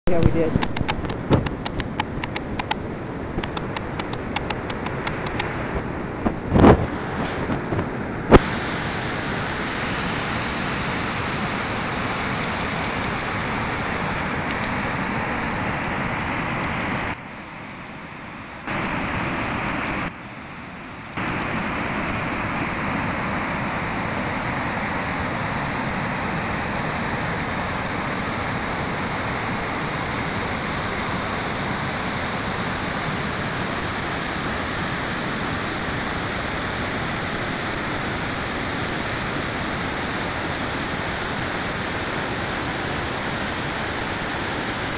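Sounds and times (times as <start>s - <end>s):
creek rushing over boulders: 0.1s - 44.9s.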